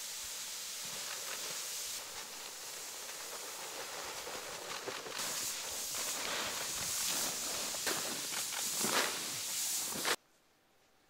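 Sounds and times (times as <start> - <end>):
grain pouring: 0.0 - 10.2
hands scooping through grain: 0.0 - 10.2.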